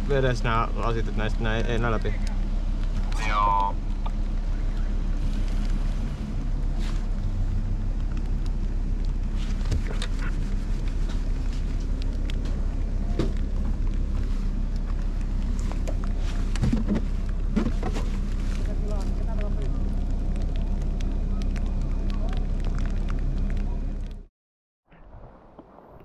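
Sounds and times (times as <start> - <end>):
tyres on gravel road: 0.0 - 24.3
vehicle engine running: 0.0 - 24.3.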